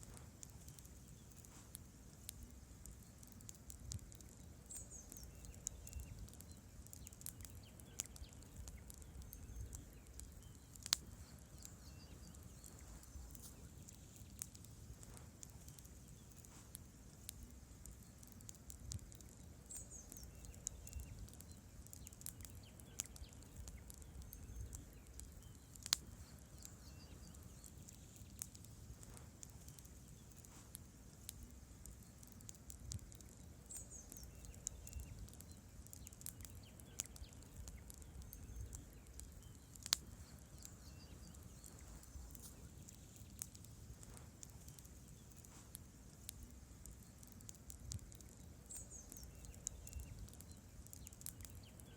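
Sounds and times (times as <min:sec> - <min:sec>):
campfire crackling: 0:00.0 - 0:51.9
sharp pops of burning logs: 0:00.0 - 0:51.9.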